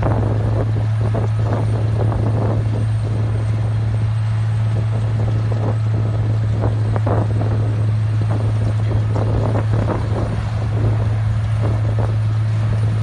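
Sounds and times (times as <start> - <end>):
milling machine low hum: 0.0 - 13.0
rough grinding noise: 0.0 - 13.0.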